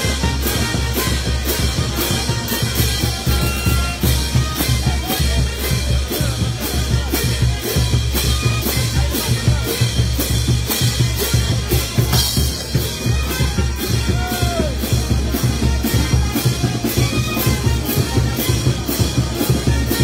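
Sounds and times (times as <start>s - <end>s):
bass drums: 0.0s - 20.0s
marching brass band: 0.0s - 20.0s
snare drum: 0.0s - 20.0s.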